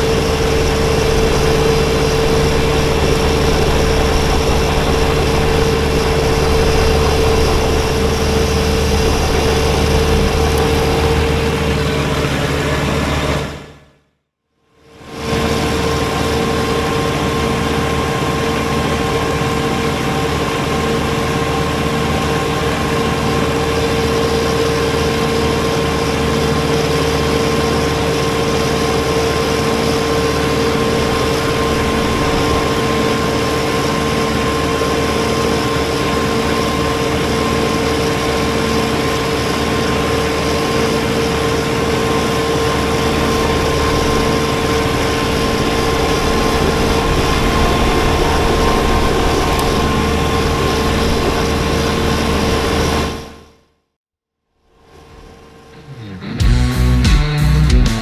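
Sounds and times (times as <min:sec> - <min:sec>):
diesel tractor engine running: 0:00.0 - 0:13.9, 0:15.5 - 0:53.4
snowblower high whine: 0:00.0 - 0:14.0, 0:14.9 - 0:53.6.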